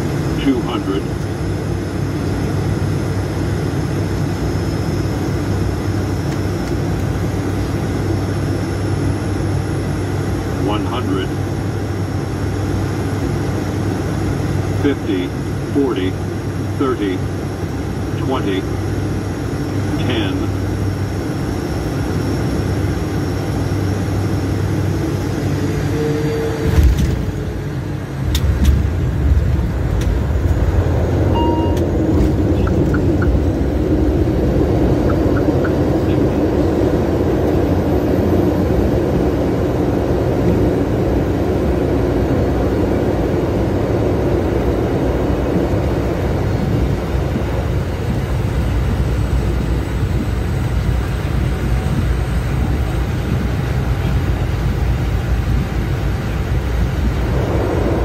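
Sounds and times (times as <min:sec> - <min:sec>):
turboprop engines rumbling: 0:00.0 - 0:58.0.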